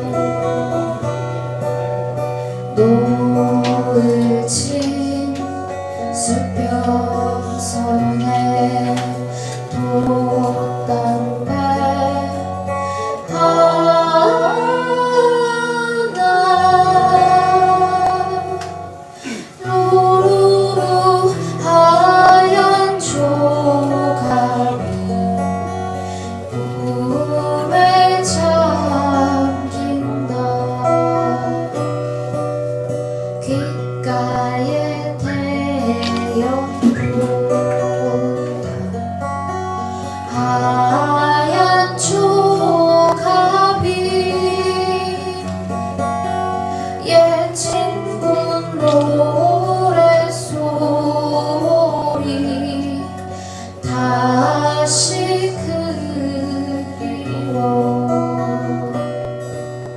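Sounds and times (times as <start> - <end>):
guitar accompaniment: 0.0 - 59.9
woman singing: 0.0 - 59.9.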